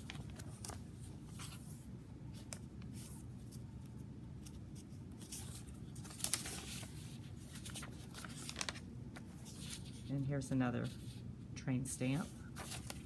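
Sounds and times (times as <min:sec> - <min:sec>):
paper pages rustling and crinkling: 0:00.0 - 0:11.2, 0:12.2 - 0:13.0.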